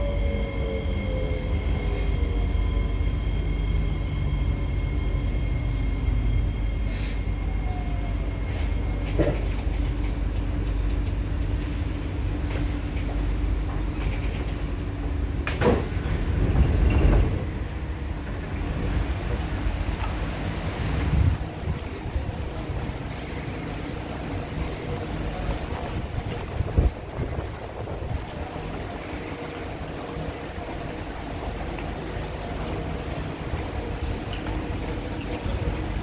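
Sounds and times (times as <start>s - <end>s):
train doors opening: 0.0s - 36.0s
train running rumble: 0.0s - 36.0s.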